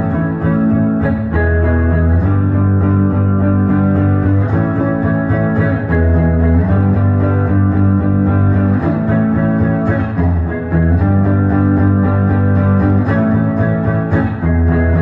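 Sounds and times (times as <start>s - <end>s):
electric guitar plucked: 0.0s - 15.0s.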